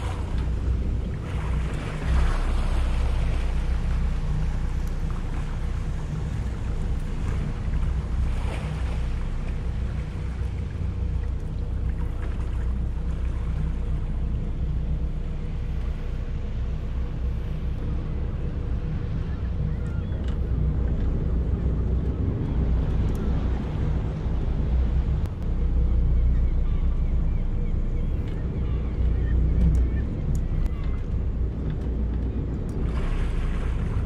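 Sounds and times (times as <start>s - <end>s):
boat diesel engines rumbling: 0.0s - 34.0s.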